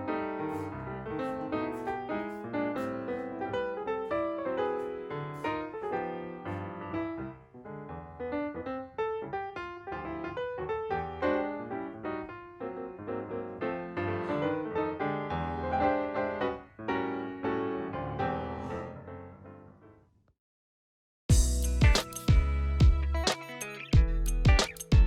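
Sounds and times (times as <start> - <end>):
piano music: 0.0 - 19.9, 21.3 - 25.0.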